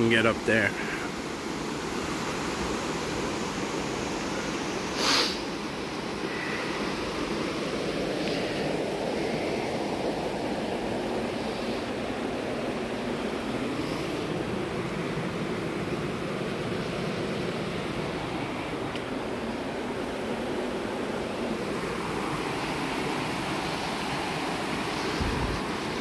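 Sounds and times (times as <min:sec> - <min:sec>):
water cascading down creek: 0:00.0 - 0:26.0.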